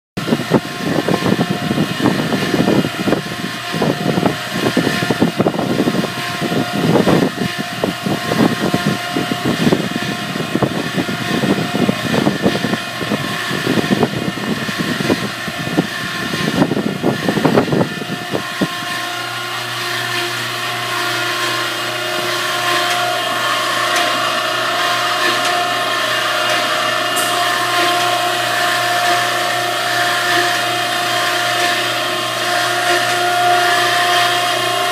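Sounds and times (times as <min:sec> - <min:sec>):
surface grinder running: 0:00.2 - 0:34.9.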